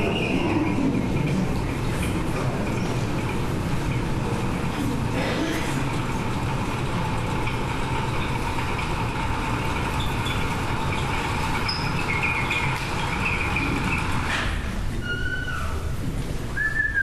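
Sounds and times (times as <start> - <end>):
distant traffic rumble and hiss: 0.0 - 16.9.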